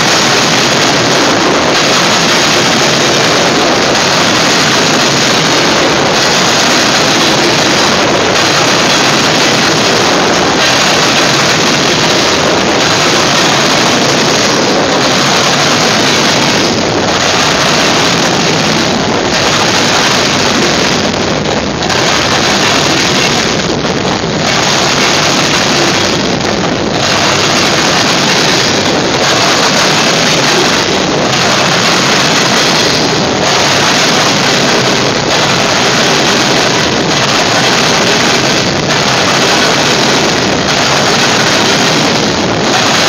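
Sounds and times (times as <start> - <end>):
steel wheels rushing on rail: 0.0 - 43.0.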